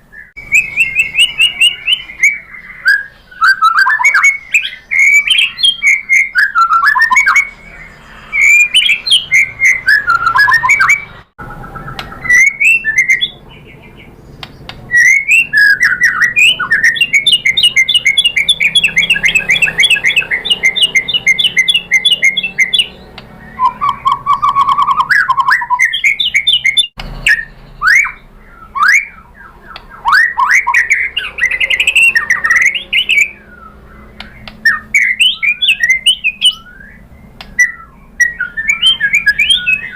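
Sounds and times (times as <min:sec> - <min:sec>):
bird singing whistled phrases: 0:00.0 - 0:39.9
fast bird trill: 0:00.1 - 0:39.9.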